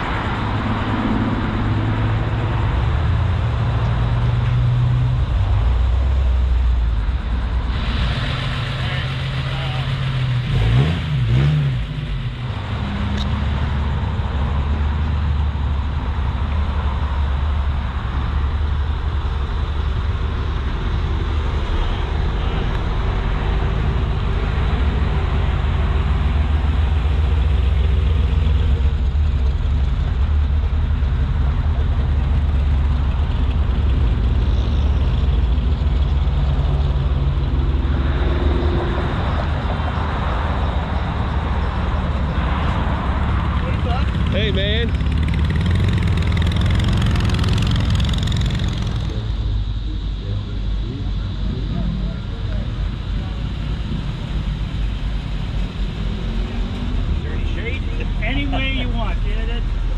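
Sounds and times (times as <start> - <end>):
car engines rumbling: 0.0 - 59.9
traffic noise: 0.0 - 59.9.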